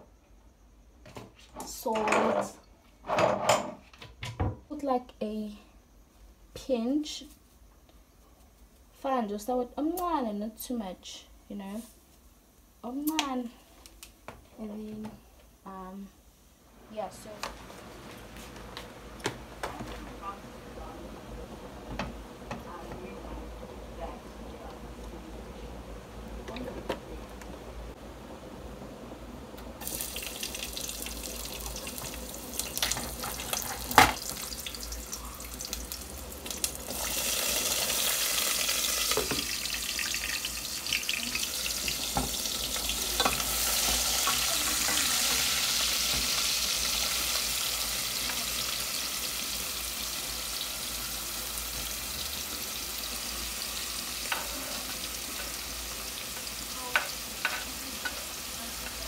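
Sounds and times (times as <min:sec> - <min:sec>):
vegetables sizzling in a pot: 0:06.3 - 0:59.0.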